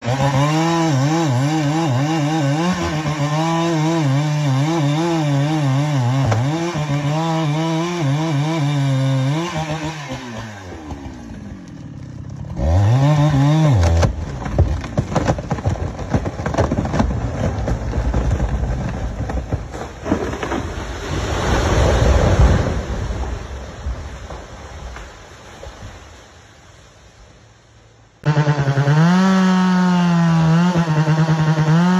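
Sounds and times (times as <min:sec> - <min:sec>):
chainsaw cutting tree: 0:00.0 - 0:24.9, 0:28.2 - 0:31.9
tree cracking and crashing: 0:00.1 - 0:26.5.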